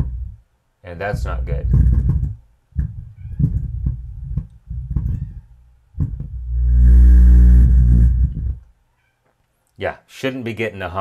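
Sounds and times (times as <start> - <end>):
amplifier hum through speaker: 0.0 - 8.8.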